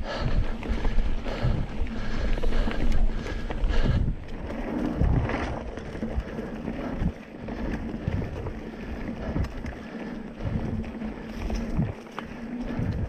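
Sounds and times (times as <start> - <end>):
tyres on dirt trail: 0.0 - 13.0
wind rumble on microphone: 0.0 - 13.0.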